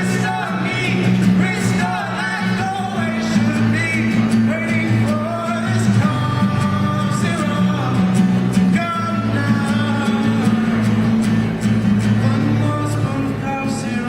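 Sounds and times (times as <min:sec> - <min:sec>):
guitar chords: 0:00.0 - 0:14.0
man singing: 0:00.0 - 0:14.0.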